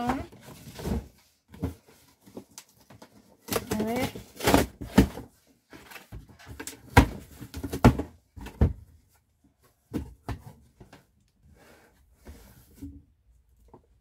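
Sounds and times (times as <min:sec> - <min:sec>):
cardboard flaps rustling and scraping: 0:00.0 - 0:13.2.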